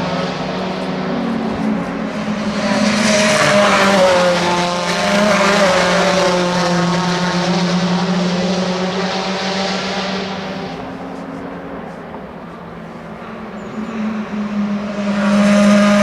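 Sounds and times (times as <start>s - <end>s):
racing car engines passing: 0.0s - 16.0s.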